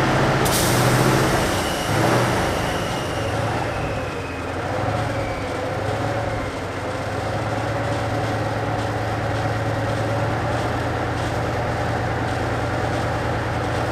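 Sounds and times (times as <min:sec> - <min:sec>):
diesel engine droning: 0:00.0 - 0:13.9
faint engine whine: 0:00.0 - 0:13.9.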